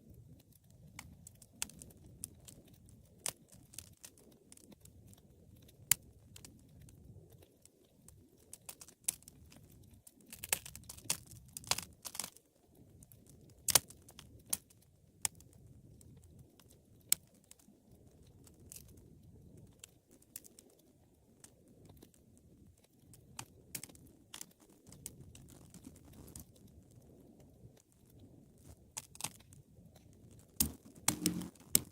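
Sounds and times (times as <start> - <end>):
low rumble of flames: 0.0 - 31.9
wood fire crackling: 0.0 - 31.9.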